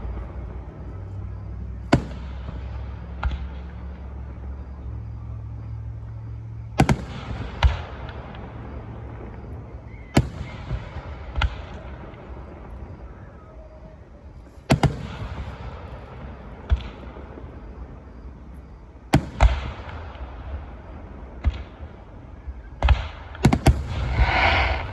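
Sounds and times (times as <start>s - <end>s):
fireworks bangs with echo: 0.0s - 4.4s, 6.8s - 24.9s.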